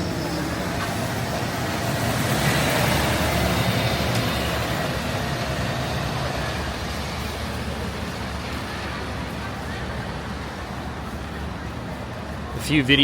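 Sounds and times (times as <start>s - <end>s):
heavy vehicle passing: 0.0s - 11.6s
roadway hum: 0.0s - 13.0s.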